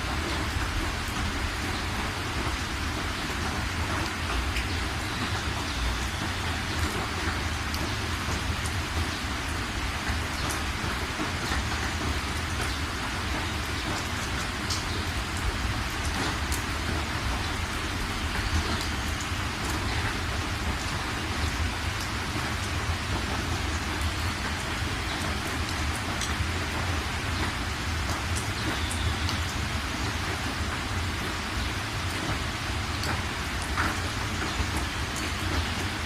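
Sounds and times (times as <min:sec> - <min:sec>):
steady rain hiss: 0:00.0 - 0:36.0
sharp drips: 0:00.1 - 0:36.0.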